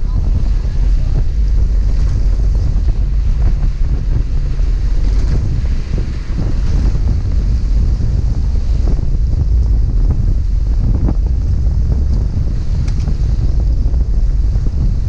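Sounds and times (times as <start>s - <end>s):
waves washing against boat hull: 0.0s - 15.0s
wind buffeting microphone: 0.0s - 15.0s.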